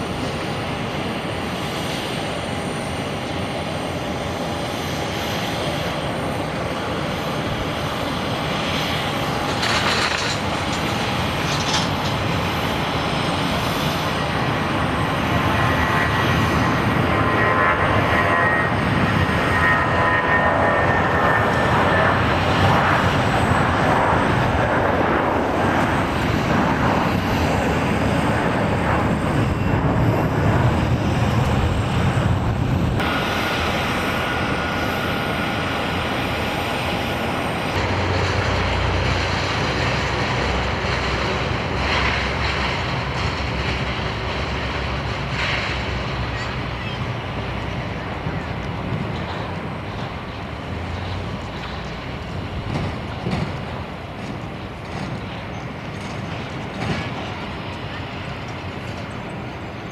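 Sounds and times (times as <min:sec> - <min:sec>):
jet engines at takeoff: 0:00.0 - 0:59.9
turboprop engines droning: 0:00.0 - 0:59.9.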